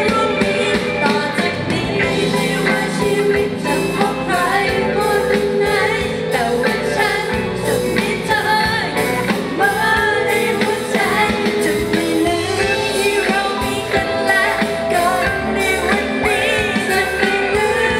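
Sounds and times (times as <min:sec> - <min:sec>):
live band playing: 0:00.0 - 0:17.9
woman singing pop song: 0:00.0 - 0:17.9.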